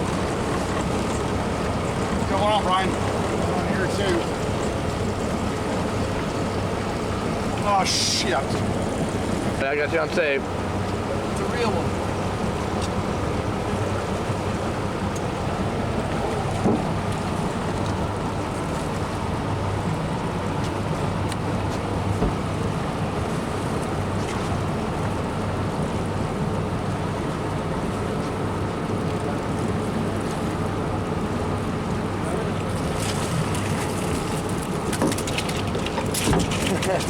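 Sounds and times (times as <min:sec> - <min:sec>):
low motor hum: 0:00.0 - 0:37.0
river water rushing: 0:00.0 - 0:37.0
wind: 0:00.0 - 0:37.0.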